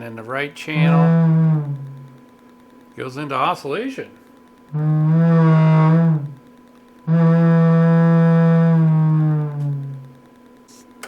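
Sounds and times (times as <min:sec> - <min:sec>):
amplifier buzzy low tone: 0:00.0 - 0:11.0
faint steady test tone: 0:00.0 - 0:11.0.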